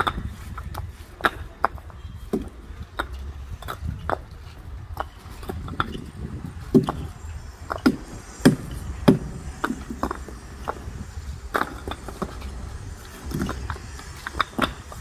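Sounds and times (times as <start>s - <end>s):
low steady rumble: 0.0s - 15.0s
paving stones knocking: 0.0s - 15.0s.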